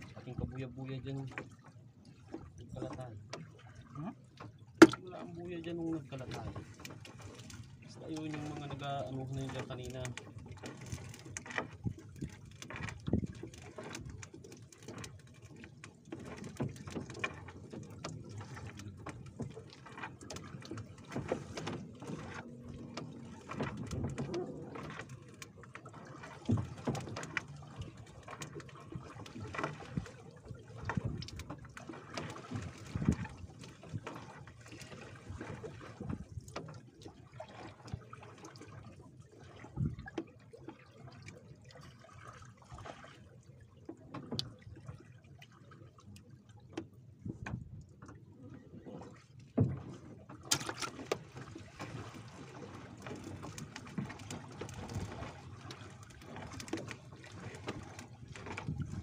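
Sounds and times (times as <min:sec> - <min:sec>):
water splashing and dripping: 0:00.0 - 0:46.9, 0:49.0 - 0:59.0.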